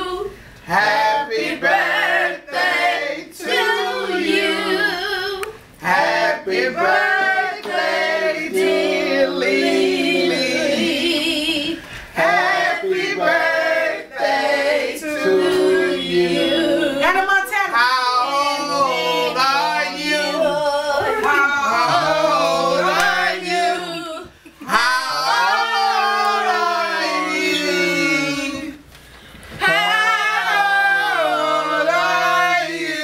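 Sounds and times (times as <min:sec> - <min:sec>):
group singing unaccompanied: 0:00.0 - 0:28.9, 0:29.5 - 0:33.0.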